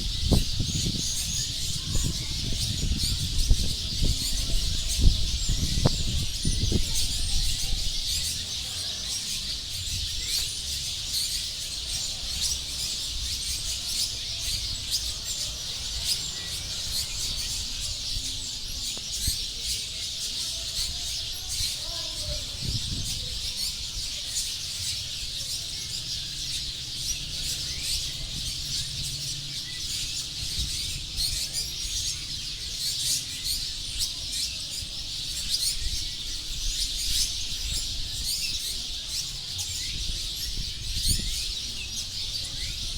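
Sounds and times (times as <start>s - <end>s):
flock of birds chirping: 0.0s - 42.9s.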